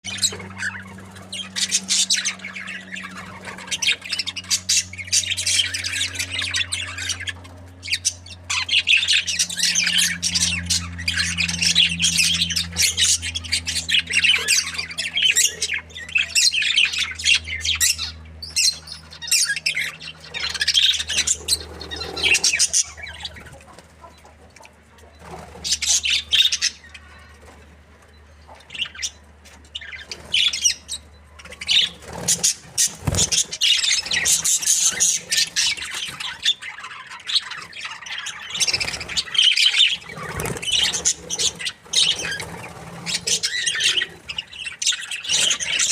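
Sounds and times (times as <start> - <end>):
budgerigars chirping: 0.1 - 27.6, 28.2 - 45.9
low hum: 0.1 - 44.8.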